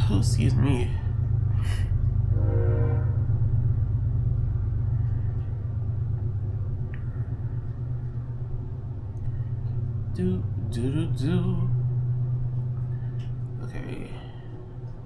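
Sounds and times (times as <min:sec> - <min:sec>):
low hum with rumble: 0:00.0 - 0:15.0.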